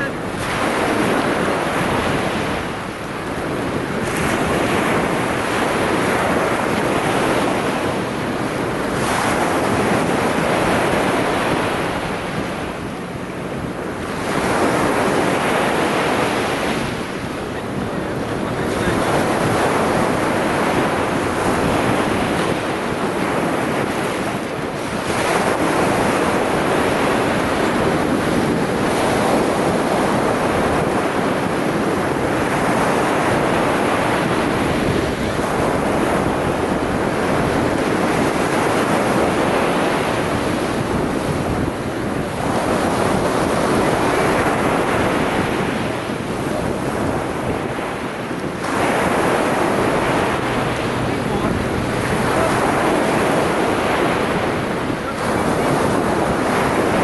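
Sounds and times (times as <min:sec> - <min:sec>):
waves washing up stony shore: 0:00.0 - 0:57.0
wind rumble on microphone: 0:00.0 - 0:57.0.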